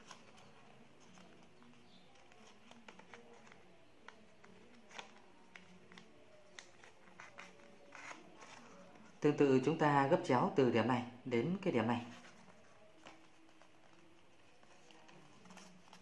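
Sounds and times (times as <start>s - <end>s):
paper crinkling: 0.0s - 9.2s, 12.0s - 16.0s.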